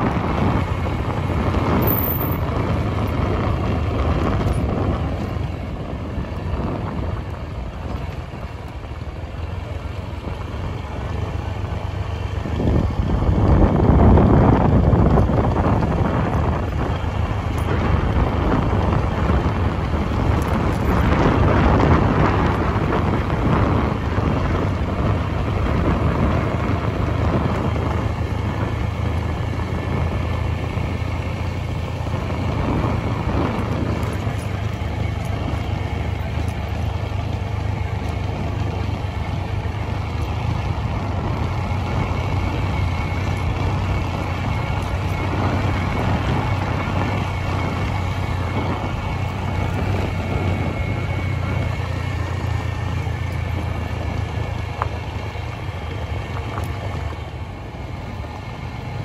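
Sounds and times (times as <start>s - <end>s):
motor vehicle rumbling: 0.0s - 59.0s.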